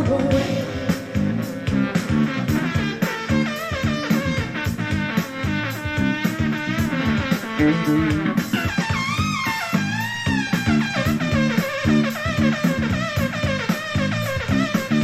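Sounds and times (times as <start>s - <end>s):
bending lead guitar: 0.0s - 15.0s
rock song over speakers: 0.0s - 15.0s.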